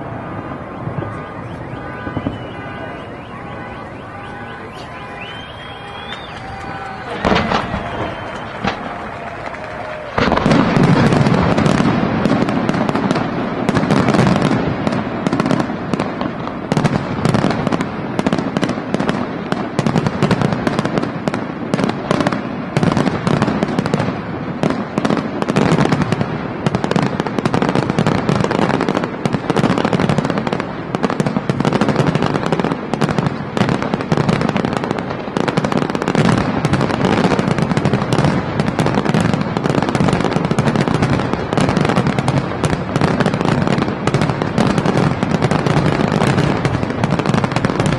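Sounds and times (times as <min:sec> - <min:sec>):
fireworks bangs and crackle: 0:00.0 - 0:47.9.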